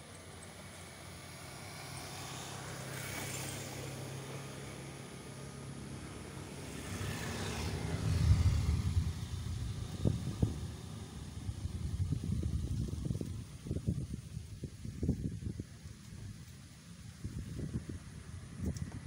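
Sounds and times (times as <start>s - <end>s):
motorcycles passing: 0.1s - 15.6s.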